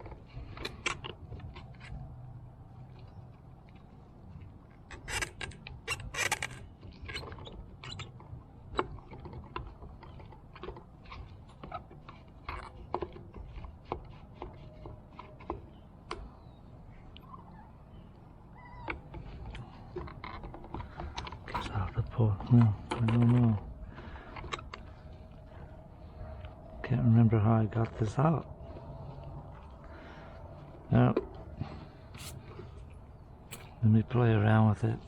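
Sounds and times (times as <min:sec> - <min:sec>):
fuel pump parts clicking and scraping: 0:00.0 - 0:35.0.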